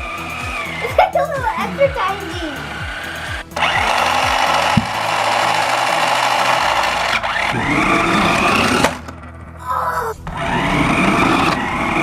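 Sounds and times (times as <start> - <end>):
toy truck motor whirring: 0.0 - 12.0
wheels rubbing over floor: 0.0 - 12.0.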